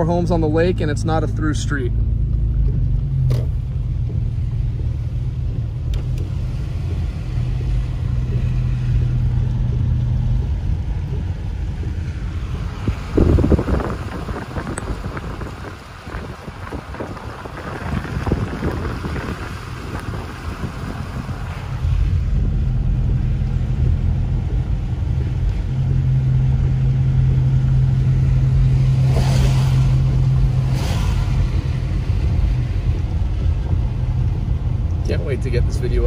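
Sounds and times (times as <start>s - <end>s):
engine and road drone: 0.0s - 36.0s
windshield wipers swishing: 0.0s - 36.0s
wind rush: 5.4s - 36.0s.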